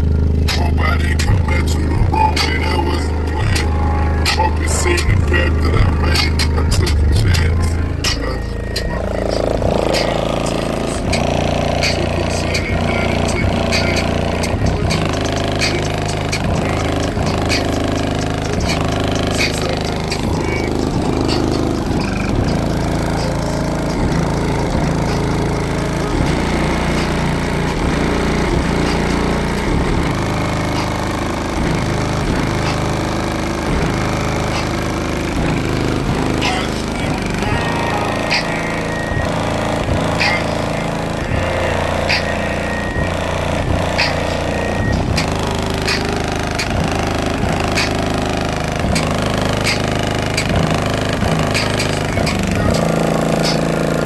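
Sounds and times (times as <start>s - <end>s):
subwoofer bass music: 0.0s - 54.0s
sharp percussion ticks: 0.5s - 54.0s.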